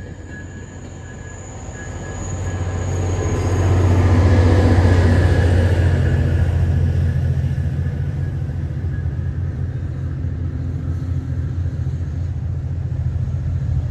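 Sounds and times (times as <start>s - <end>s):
rail and wheel noise: 0.0s - 13.9s
train low rumble: 0.0s - 13.9s.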